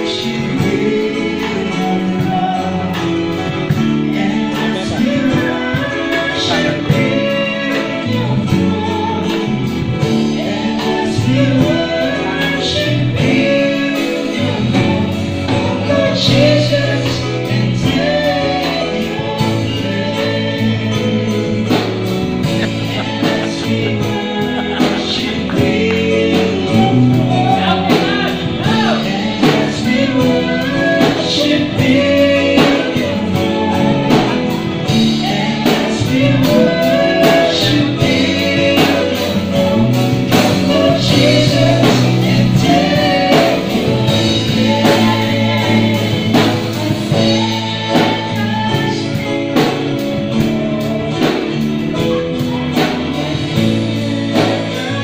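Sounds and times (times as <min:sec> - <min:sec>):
band playing gospel song: 0:00.0 - 0:55.0
person singing: 0:00.0 - 0:55.0.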